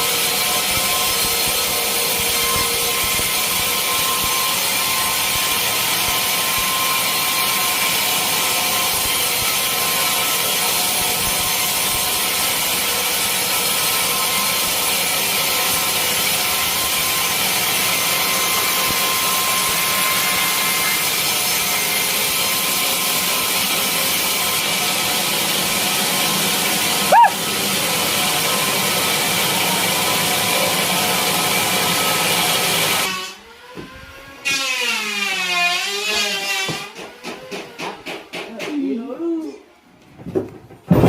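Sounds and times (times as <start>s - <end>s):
saw cutting through log: 0.0s - 38.4s.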